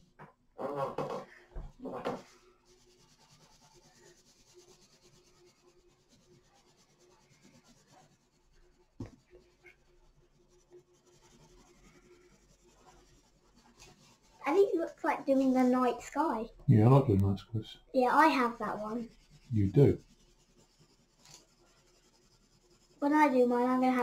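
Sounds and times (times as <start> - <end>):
pencil scratching on paper: 0.6 - 17.1, 17.9 - 24.0.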